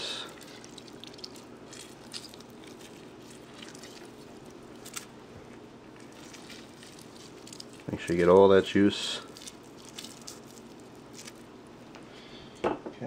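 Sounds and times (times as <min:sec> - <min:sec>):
juice dripping into plastic bowl: 0:00.0 - 0:12.0.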